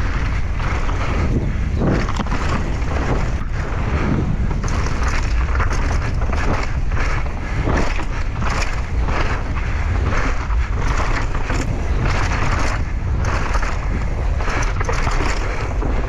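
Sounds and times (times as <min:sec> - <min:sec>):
bike tyres crunching and rattling: 0:00.0 - 0:16.0
wind buffeting microphone: 0:00.0 - 0:16.0.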